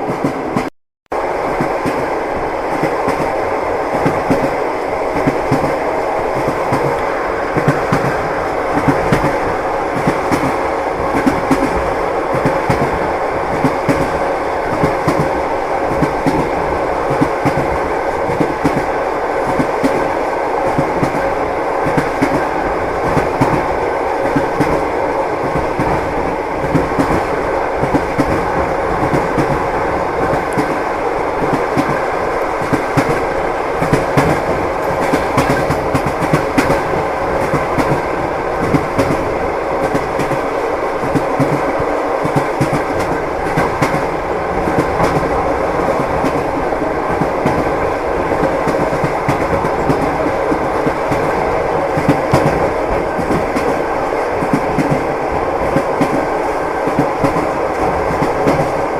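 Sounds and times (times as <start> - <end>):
train wheels clattering on rails: 1.4 - 58.9.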